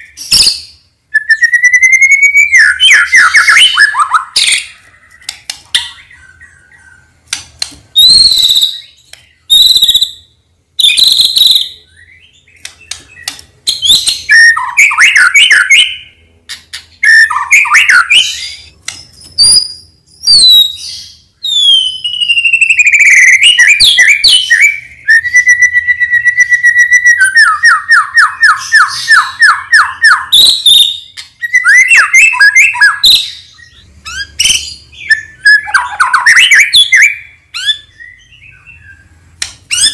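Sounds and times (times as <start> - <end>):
songbird whistling and trilling: 0.0 - 7.1, 8.0 - 39.9.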